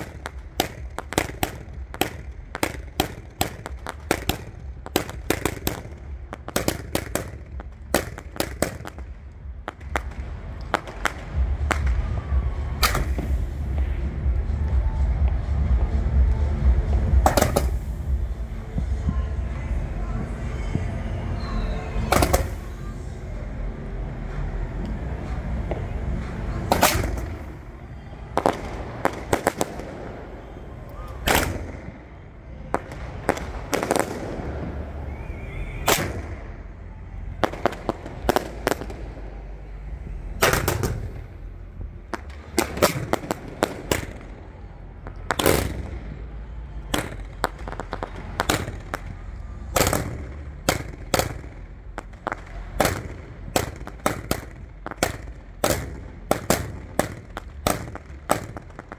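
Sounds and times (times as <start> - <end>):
fireworks reports: 0.0 - 58.9
steady low rumble: 0.0 - 58.9.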